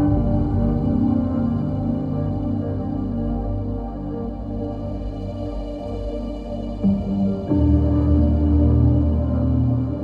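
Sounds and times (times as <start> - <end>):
ambient instrumental music: 0.0 - 10.0.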